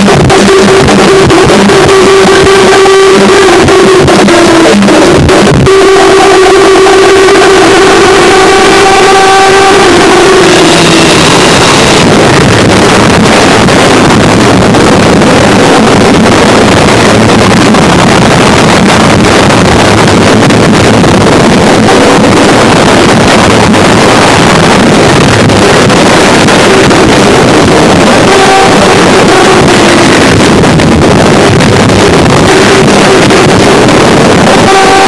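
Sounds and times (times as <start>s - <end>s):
dense static noise: 0.0s - 35.0s
distorted pitched tone: 0.0s - 35.0s.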